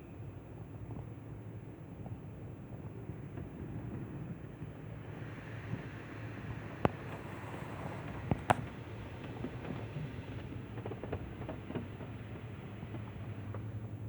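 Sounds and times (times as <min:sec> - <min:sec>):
car wash low hum: 0:00.2 - 0:14.0.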